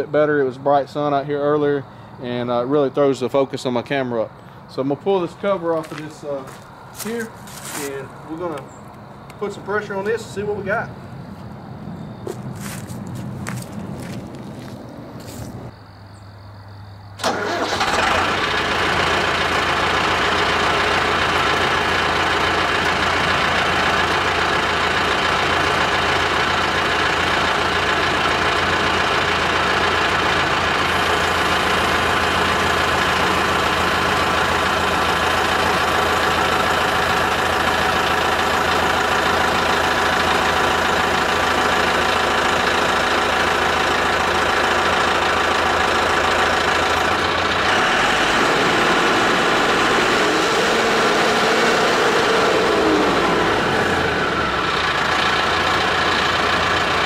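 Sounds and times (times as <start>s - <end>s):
tractor diesel engine under load: 0.0s - 11.0s, 12.2s - 15.7s, 17.2s - 57.0s.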